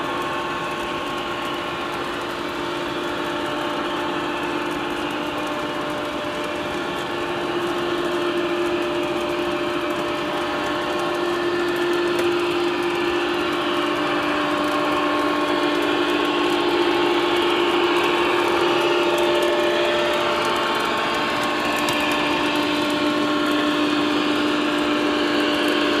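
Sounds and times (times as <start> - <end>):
electric hum: 0.0 - 26.0
model train wheels rumbling on track: 0.0 - 26.0.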